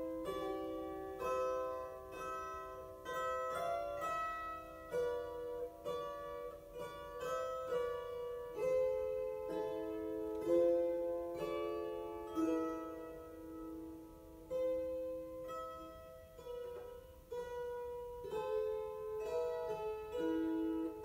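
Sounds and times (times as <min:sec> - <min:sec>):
lyres playing slow melody: 0:00.0 - 0:21.0.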